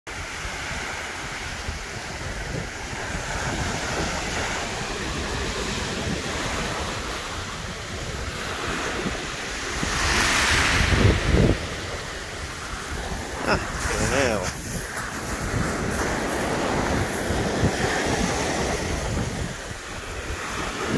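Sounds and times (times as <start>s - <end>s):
waves washing over pebbles: 0.1s - 20.9s
wind buffeting microphone: 0.1s - 20.9s.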